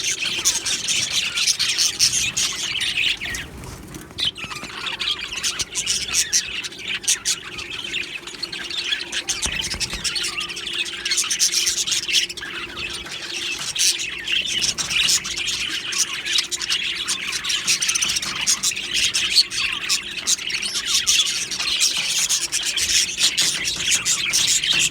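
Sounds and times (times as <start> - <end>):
budgerigars chirping and chattering: 0.0 - 24.9.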